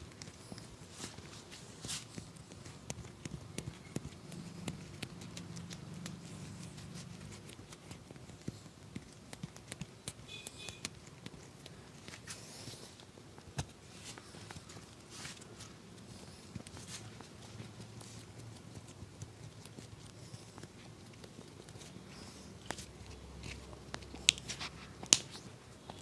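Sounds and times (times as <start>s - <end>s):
hands rubbing skin: 0.0s - 26.0s
hands tapping and patting skin: 0.0s - 26.0s.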